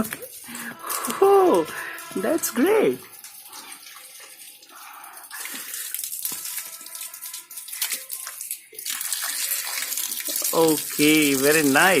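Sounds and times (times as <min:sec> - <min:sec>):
water pouring onto plant: 0:00.0 - 0:12.0.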